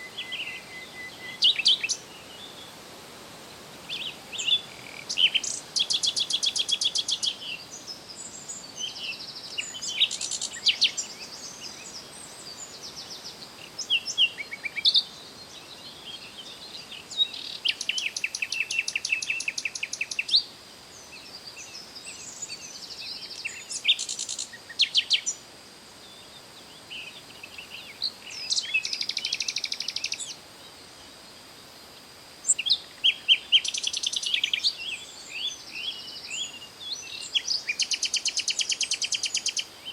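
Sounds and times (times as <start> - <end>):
songbirds singing trills: 0.0 - 2.8, 3.5 - 25.4, 26.0 - 39.9
faint high hiss: 0.0 - 39.9.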